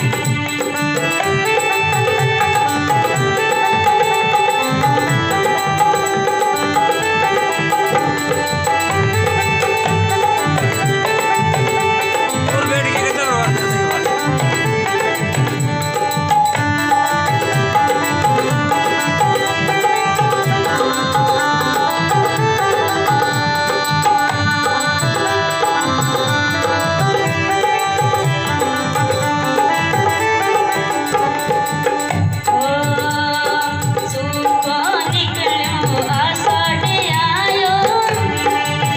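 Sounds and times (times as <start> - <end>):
sustained melodic instrument lines: 0.0 - 33.4
hand drum rhythm: 0.0 - 38.9.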